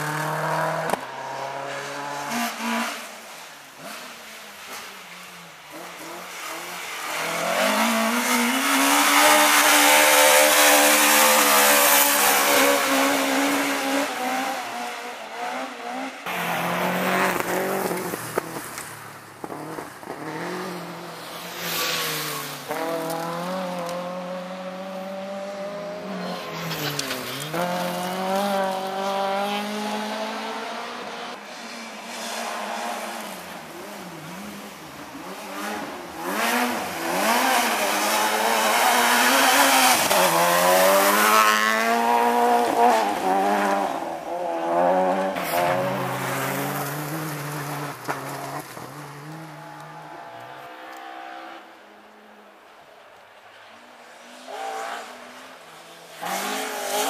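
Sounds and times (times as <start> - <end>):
rally car engines revving past: 0.0 - 52.2, 54.0 - 57.0.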